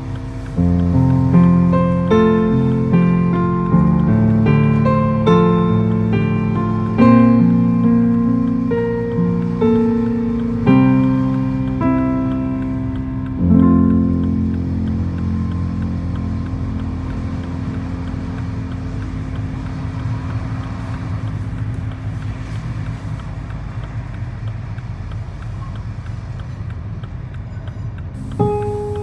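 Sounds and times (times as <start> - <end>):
held music chord: 0.0 - 23.8, 28.2 - 29.0
car engine and road rumble: 0.0 - 29.0
faint regular ticks: 0.0 - 29.0.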